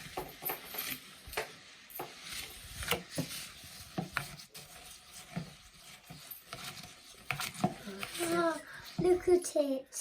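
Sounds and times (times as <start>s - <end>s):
spoon scraping bowl: 0.0s - 9.4s.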